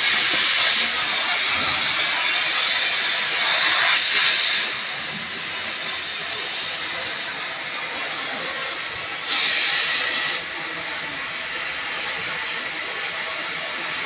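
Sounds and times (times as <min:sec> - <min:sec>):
cutting torch hissing: 0:00.0 - 0:14.0.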